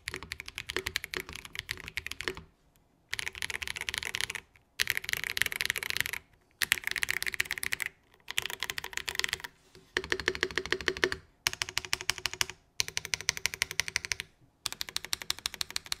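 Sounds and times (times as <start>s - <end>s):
mechanical keyboard typing: 0.0s - 2.5s, 3.1s - 16.0s.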